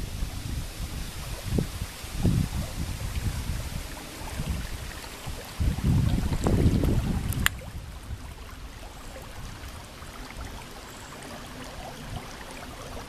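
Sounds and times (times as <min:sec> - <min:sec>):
wind rumble on microphone: 0:00.0 - 0:10.9, 0:11.5 - 0:13.0
river water running: 0:00.0 - 0:13.0.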